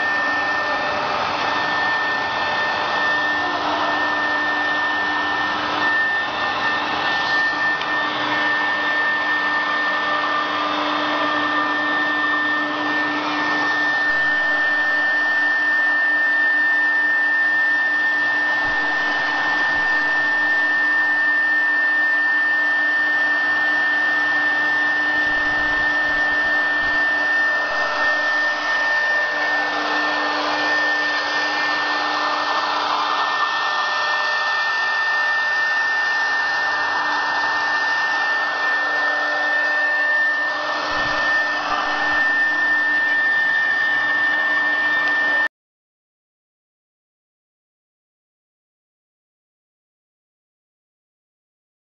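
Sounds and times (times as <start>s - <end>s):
router spindle whine: 0.0s - 45.5s.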